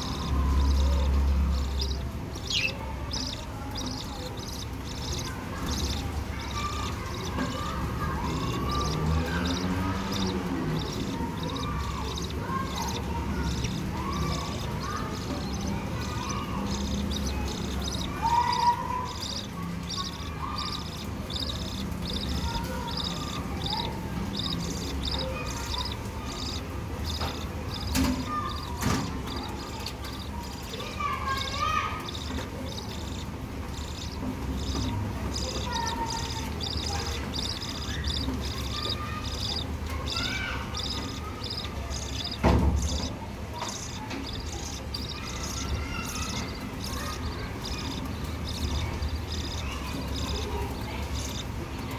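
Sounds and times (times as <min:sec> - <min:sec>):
budgerigars chirping: 0:00.0 - 0:51.9
chicks cheeping raspily: 0:00.0 - 0:51.9.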